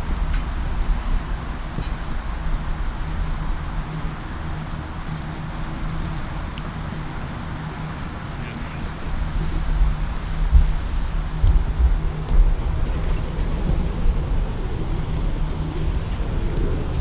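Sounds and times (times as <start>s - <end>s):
distant traffic: 0.0s - 17.0s
faint low hum: 0.0s - 17.0s
wind: 0.0s - 17.0s.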